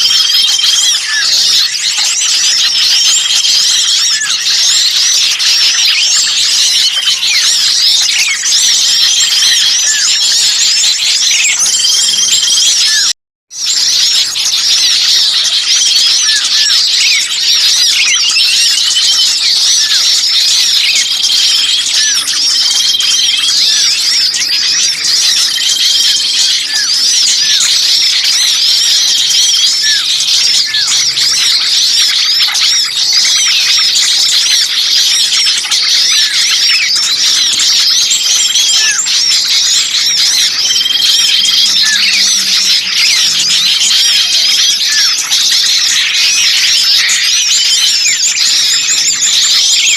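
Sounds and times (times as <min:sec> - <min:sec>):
short whistled bird notes: 0:00.0 - 0:49.9
small birds chirping and squeaking: 0:00.0 - 0:49.9.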